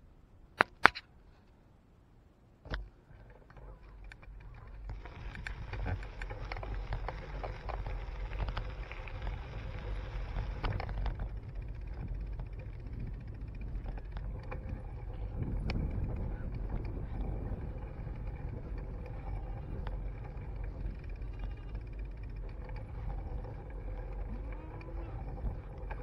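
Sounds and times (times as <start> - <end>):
wind and tyre rumble: 2.0 - 26.0
bike rattling ticks: 2.7 - 26.0.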